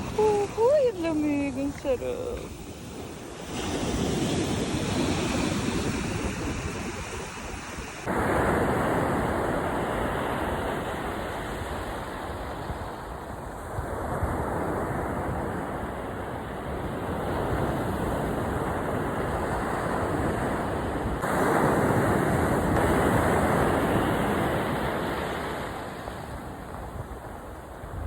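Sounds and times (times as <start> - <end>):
ocean surf on beach: 0.0 - 28.0.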